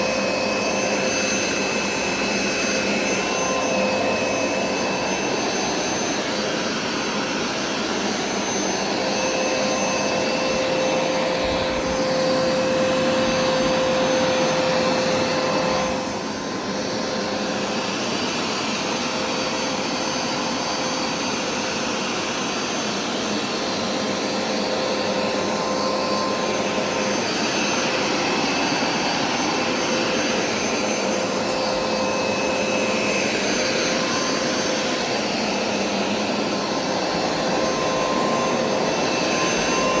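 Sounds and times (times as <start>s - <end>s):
carpet cleaner motor whining: 0.0s - 40.0s.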